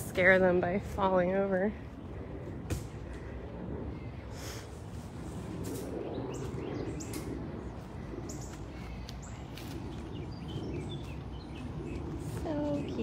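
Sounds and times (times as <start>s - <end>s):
birds chirping: 0.0s - 13.0s
outdoor background noise: 0.0s - 13.0s.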